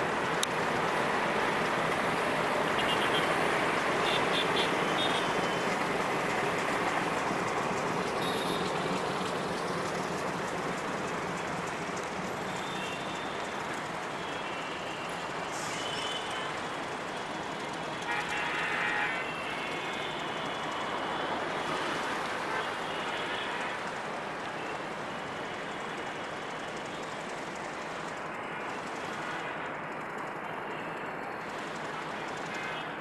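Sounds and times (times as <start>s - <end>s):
train rumbling and rattling past: 0.0s - 33.0s.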